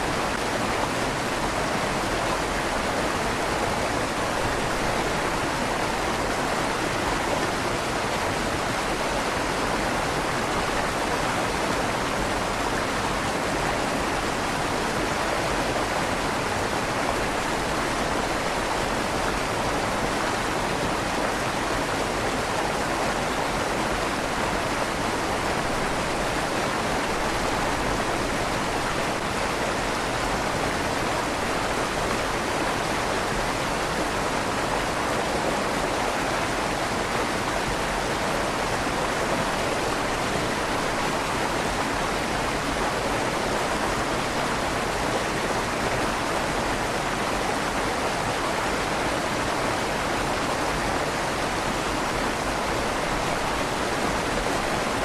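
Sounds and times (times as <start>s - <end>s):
river flowing with echo: 0.0s - 55.0s.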